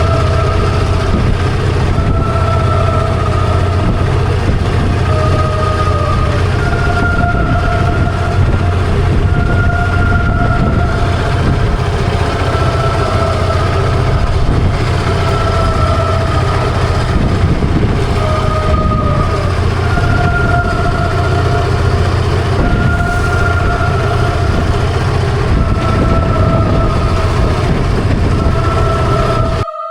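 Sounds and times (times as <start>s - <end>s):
steady low rumble: 0.0s - 29.9s.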